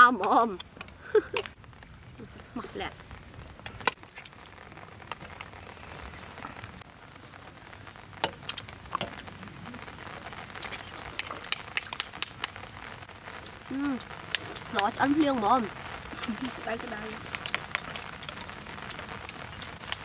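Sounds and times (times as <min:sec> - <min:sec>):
low steady hiss: 0:00.0 - 0:20.0
pot simmering: 0:00.0 - 0:20.0.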